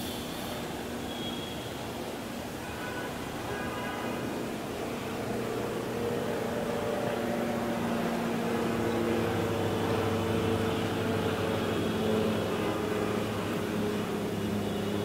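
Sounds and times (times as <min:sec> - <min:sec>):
propeller aircraft droning: 0:00.0 - 0:01.1, 0:04.1 - 0:15.0.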